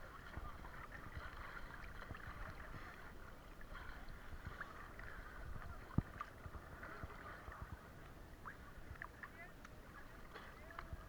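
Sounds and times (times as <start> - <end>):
sea water sloshing and splashing: 0.0 - 11.0
wind rumble on microphone: 0.0 - 11.0.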